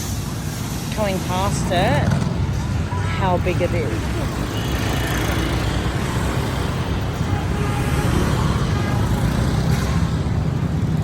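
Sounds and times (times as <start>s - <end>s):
street traffic passing: 0.0s - 11.0s.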